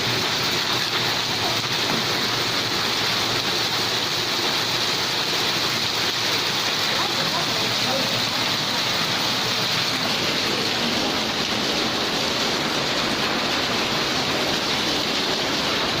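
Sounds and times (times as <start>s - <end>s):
rain and snow hissing: 0.0s - 16.0s.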